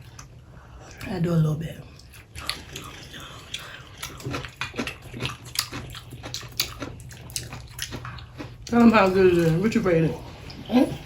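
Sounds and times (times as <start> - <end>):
chewing crunchy food: 1.9 - 11.0.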